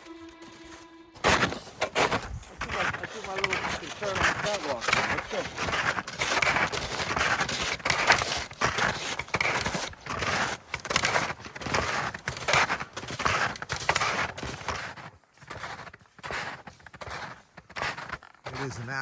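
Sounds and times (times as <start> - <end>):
footsteps crunching in snow: 0.0 - 19.0.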